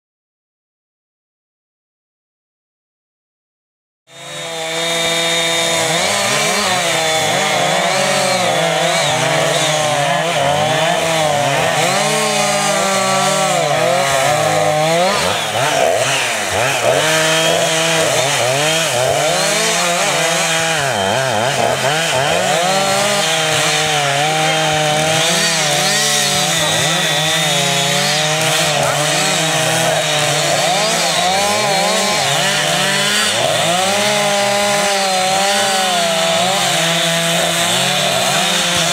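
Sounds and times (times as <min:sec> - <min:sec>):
chainsaw running at high speed: 0:04.1 - 0:38.9.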